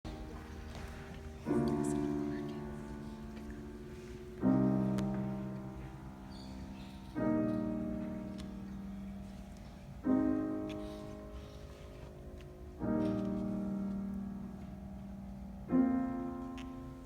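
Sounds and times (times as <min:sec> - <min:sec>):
piano chords ringing: 0:00.0 - 0:17.0.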